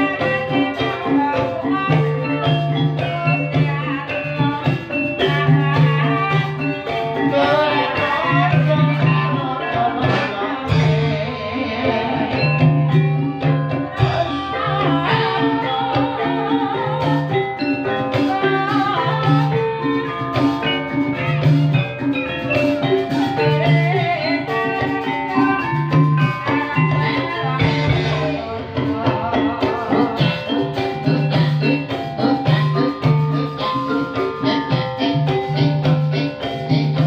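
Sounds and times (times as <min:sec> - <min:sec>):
metal mallet instruments ringing: 0:00.0 - 0:37.0
wavering melody line: 0:00.0 - 0:37.0.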